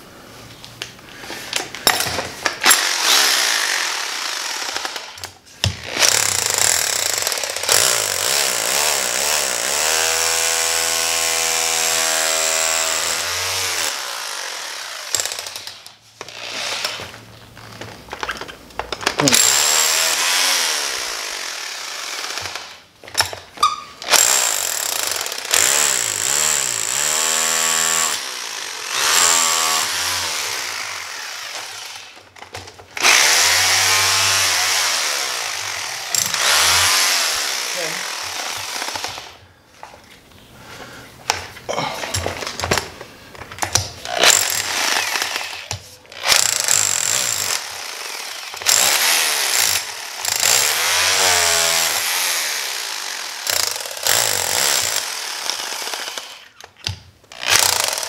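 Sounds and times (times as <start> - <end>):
rotary hammer drilling: 1.8 - 17.2, 19.1 - 23.3, 24.0 - 39.4, 43.6 - 58.0.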